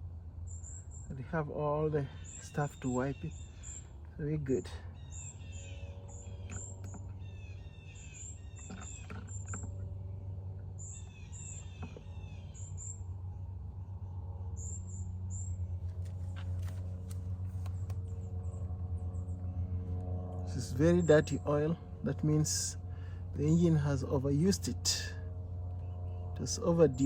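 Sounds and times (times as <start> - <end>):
steady low hum: 0.0 - 27.0
small birds chirping: 0.4 - 25.0, 25.7 - 27.0.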